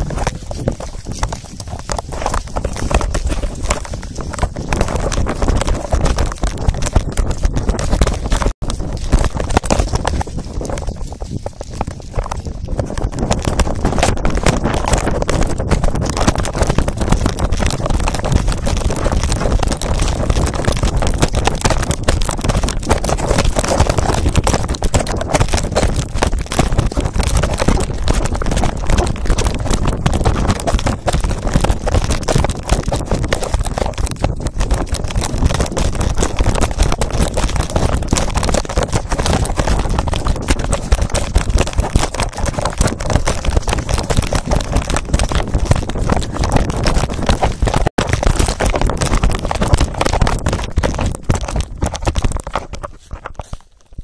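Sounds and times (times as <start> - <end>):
microphone rubbing and knocking: 0.0 - 54.0
wind noise: 0.0 - 54.0.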